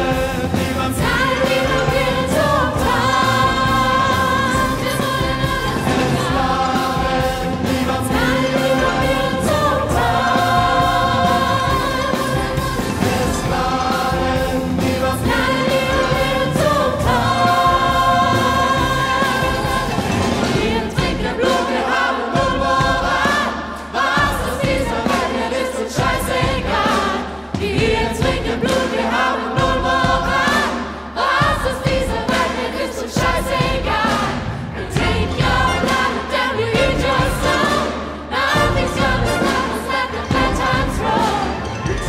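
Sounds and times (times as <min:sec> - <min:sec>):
orchestra and choir: 0:00.0 - 0:42.0.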